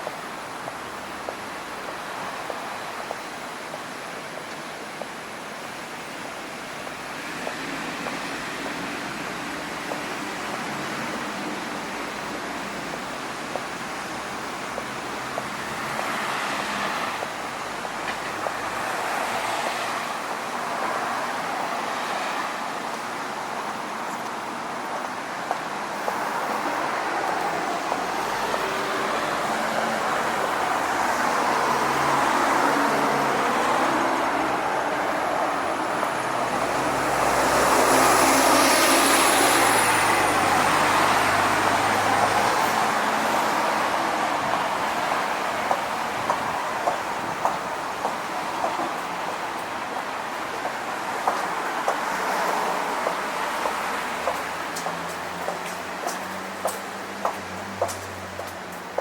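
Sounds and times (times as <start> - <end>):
road traffic noise: 0.0 - 59.0
vehicles passing: 0.0 - 59.0.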